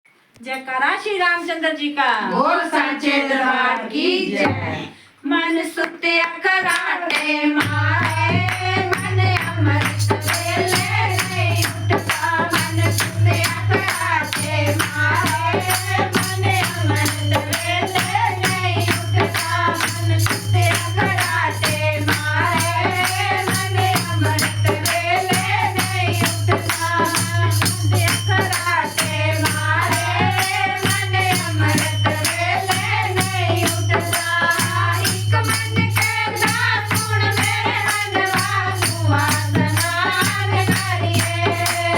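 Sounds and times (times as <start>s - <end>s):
rattling hand percussion: 6.5s - 41.9s.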